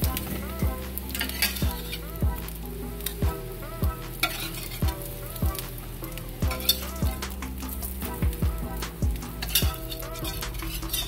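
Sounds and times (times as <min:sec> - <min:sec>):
background music with drum beat: 0:00.0 - 0:11.0
food sizzling in hot oil: 0:00.0 - 0:11.0.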